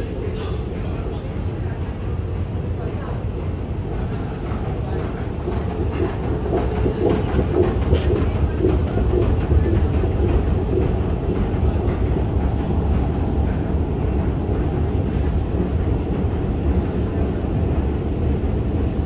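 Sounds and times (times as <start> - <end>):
rhythmic wheel clatter: 0.0 - 19.0
underground train rumbling: 0.0 - 19.0.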